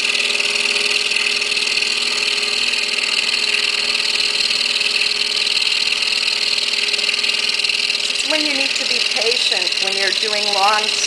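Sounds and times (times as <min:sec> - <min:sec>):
scroll saw cutting wood: 0:00.0 - 0:11.0.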